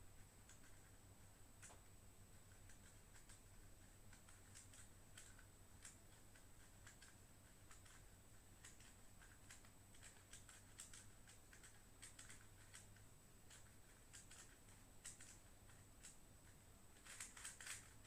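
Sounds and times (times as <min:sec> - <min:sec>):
steady low hum: 0:00.0 - 0:18.0
speed cube clicking: 0:00.5 - 0:00.9, 0:02.5 - 0:18.0.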